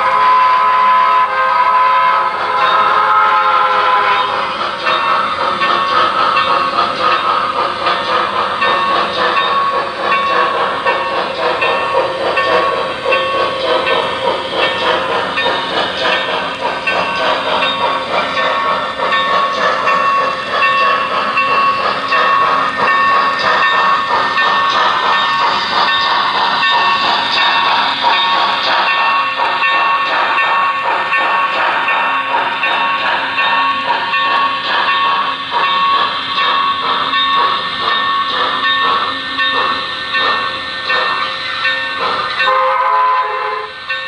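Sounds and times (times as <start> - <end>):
model train wheels clicking: 0.0 - 44.0.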